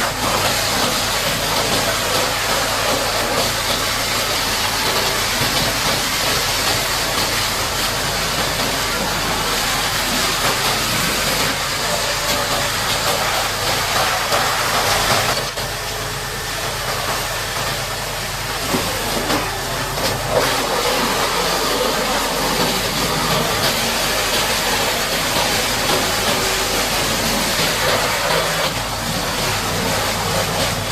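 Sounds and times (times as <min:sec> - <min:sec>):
pressure washer water jet hissing: 0:00.0 - 0:30.9.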